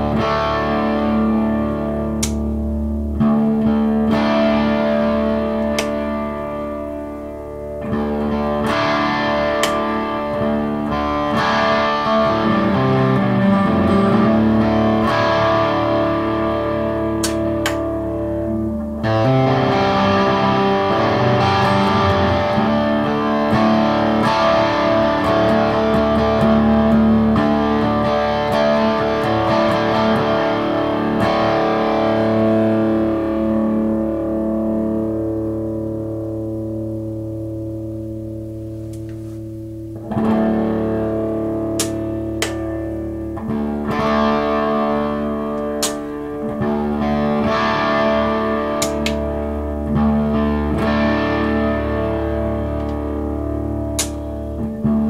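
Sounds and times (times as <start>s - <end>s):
electric guitar chords: 0.0s - 55.0s.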